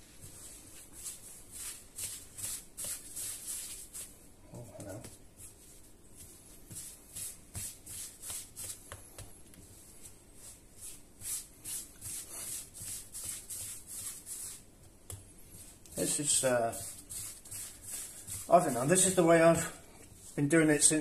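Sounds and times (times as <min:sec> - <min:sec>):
hands rubbing dough: 0:00.0 - 0:21.0.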